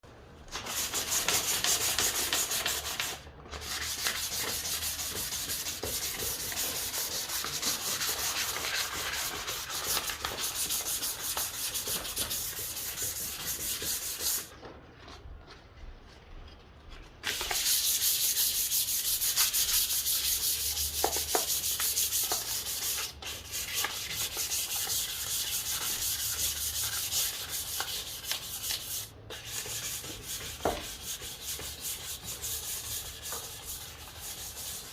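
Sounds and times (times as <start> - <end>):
sandpaper rubbing on wood: 0.7 - 14.5, 17.3 - 34.9.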